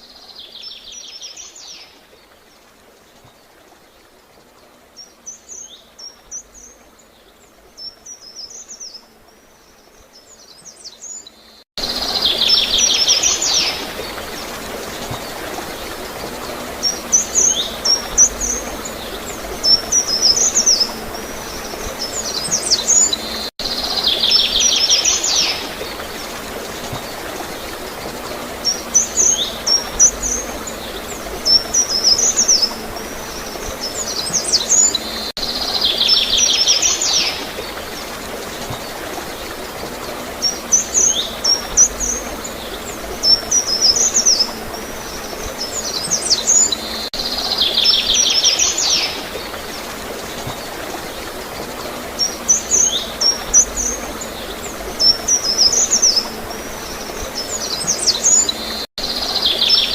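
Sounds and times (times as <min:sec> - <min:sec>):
flowing water: 0:00.0 - 0:59.9
songbirds chirping: 0:00.0 - 0:59.9.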